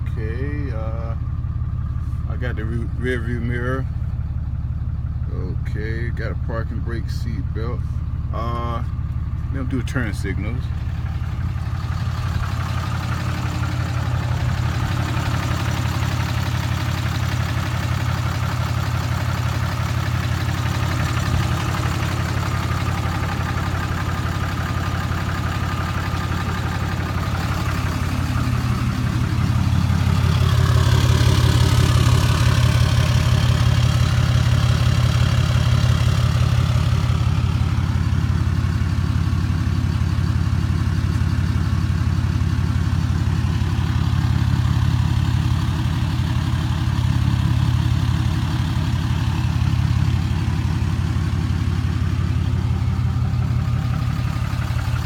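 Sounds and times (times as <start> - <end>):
pickup truck engine idling: 0.0 - 55.0.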